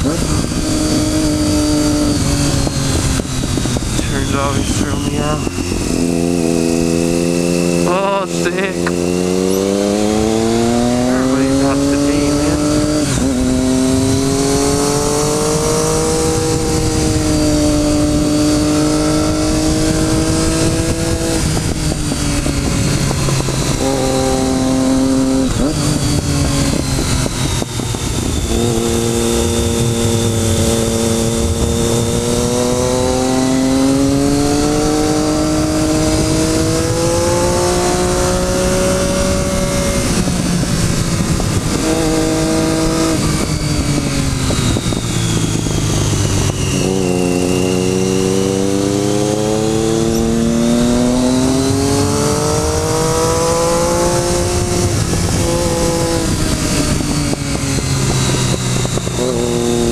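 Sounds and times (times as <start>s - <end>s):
heavy wind rush: 0.0s - 59.9s
motorcycle engine revving: 0.0s - 59.9s.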